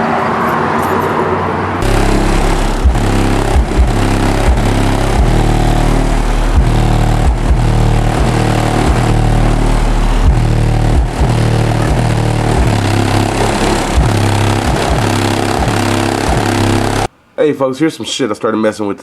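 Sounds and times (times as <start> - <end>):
loud distorted electronic music: 1.8 - 17.1.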